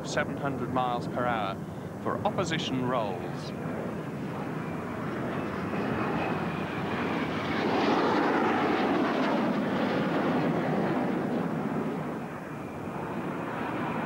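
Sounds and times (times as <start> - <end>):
jet aircraft passing low: 0.0 - 14.0.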